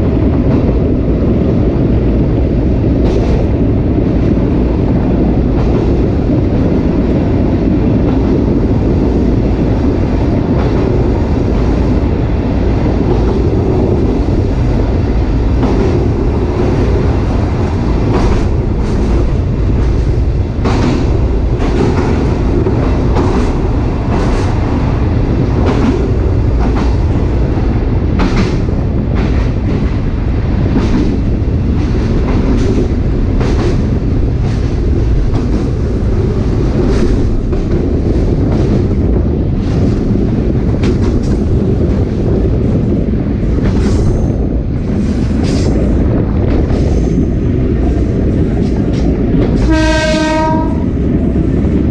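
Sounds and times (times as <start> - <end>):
steel wheels rumbling on rail: 0.0 - 51.9
clacks over rail joints: 7.7 - 51.9.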